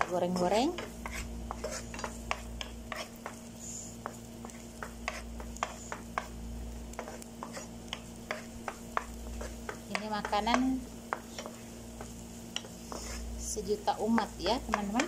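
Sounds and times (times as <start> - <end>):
faint oil sizzle: 0.0 - 15.0
spatula scraping frying pan: 0.3 - 15.0.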